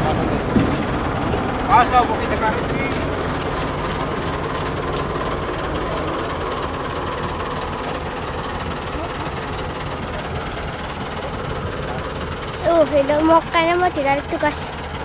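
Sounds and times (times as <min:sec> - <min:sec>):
diesel machinery engine rumble: 0:00.0 - 0:15.0.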